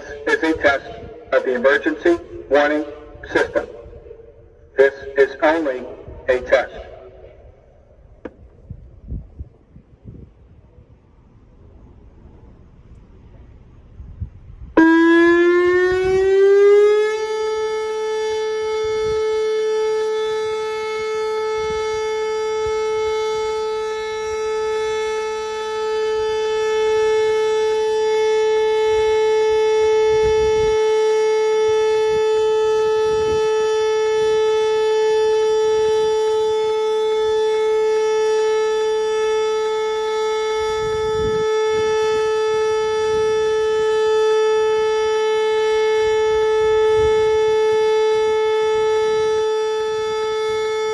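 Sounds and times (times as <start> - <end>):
electronic siren steady tone: 0.0 - 50.9.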